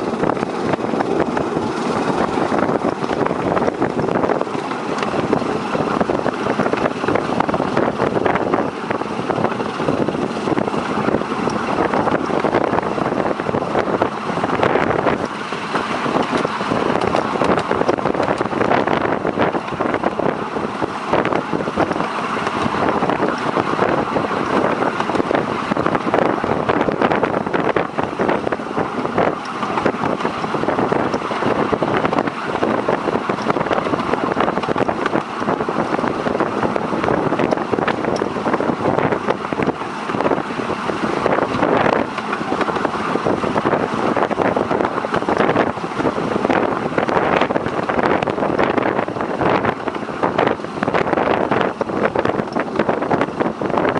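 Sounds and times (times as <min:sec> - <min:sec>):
train wheels rumbling on rails: 0:00.0 - 0:53.9
wind on microphone: 0:00.0 - 0:53.9.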